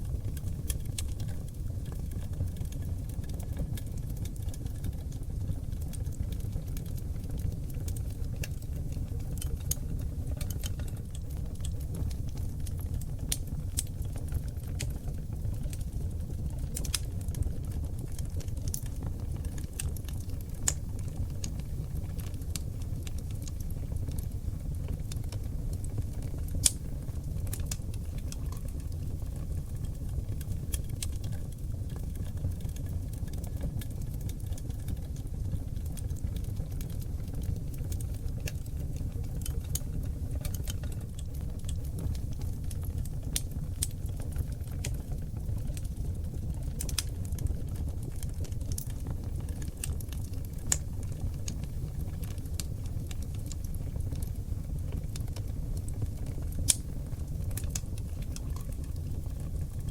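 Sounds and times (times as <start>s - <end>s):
logs crackling and popping: 0.0s - 59.9s
low rumble of flames: 0.0s - 59.9s.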